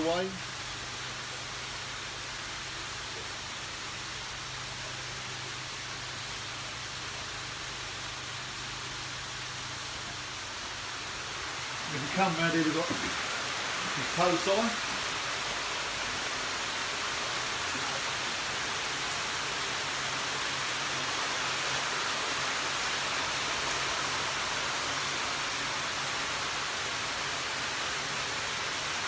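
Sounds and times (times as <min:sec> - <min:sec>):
water rushing into a pond: 0:00.0 - 0:29.0.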